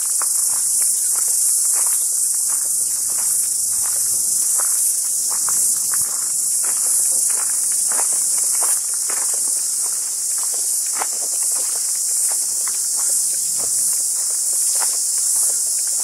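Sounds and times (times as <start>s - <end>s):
footsteps on gravel: 0.0s - 16.0s
insects chorus: 0.0s - 16.0s.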